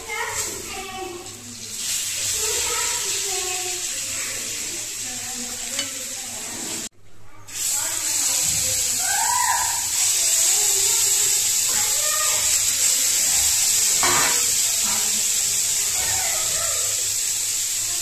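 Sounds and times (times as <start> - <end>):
fish sizzling in hot oil: 0.0 - 6.9, 7.5 - 18.0.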